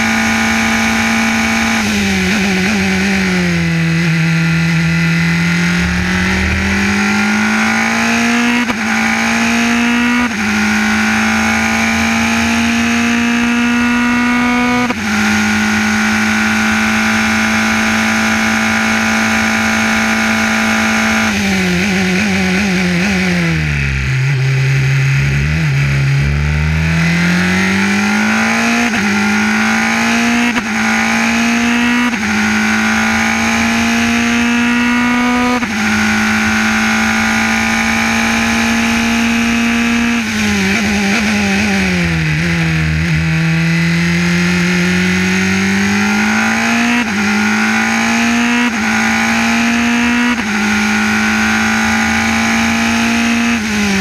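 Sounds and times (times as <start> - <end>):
race car engine revving and shifting: 0.0 - 54.0.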